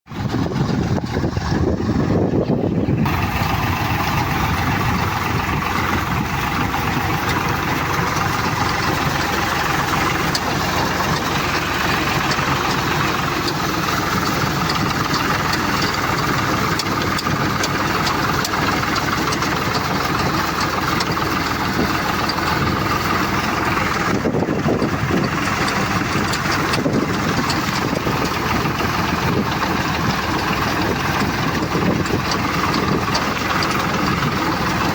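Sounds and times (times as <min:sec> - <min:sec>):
engine running with mechanical clatter: 0:00.0 - 0:34.9.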